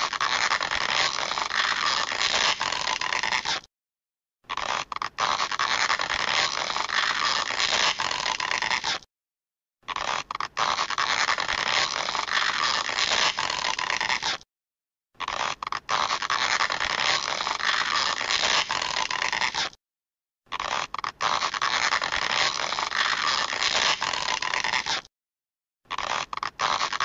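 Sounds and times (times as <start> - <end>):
rough stretching sound effect: 0.0 - 3.7, 4.5 - 9.1, 9.8 - 14.5, 15.2 - 19.8, 20.5 - 25.1, 25.9 - 27.0.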